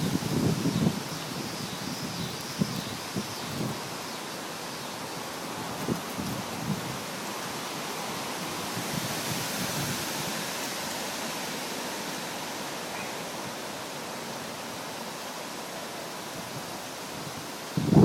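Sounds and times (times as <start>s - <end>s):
strong storm wind blowing: 0.0s - 15.1s, 16.0s - 18.0s.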